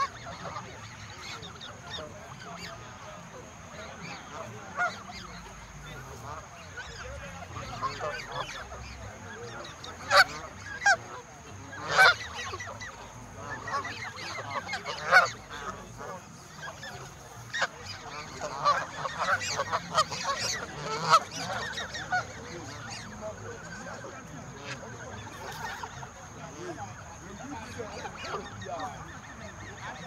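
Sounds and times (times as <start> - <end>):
geese honking: 0.0 - 30.0.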